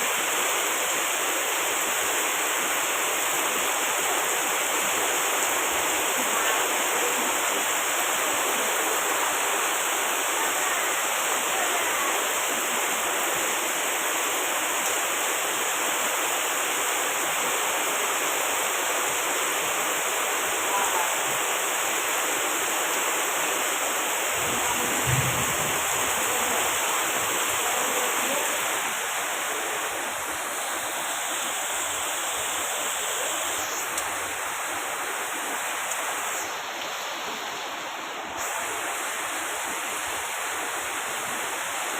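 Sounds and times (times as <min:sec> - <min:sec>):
steady rainfall: 0:00.0 - 0:41.9.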